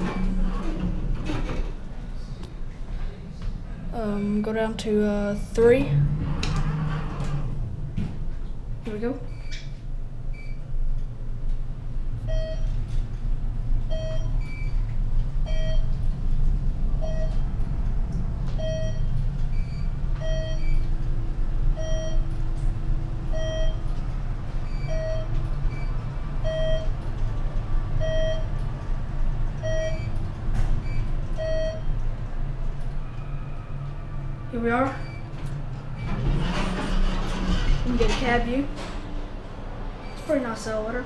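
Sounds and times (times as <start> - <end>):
elevator rumbling: 0.0 - 41.0.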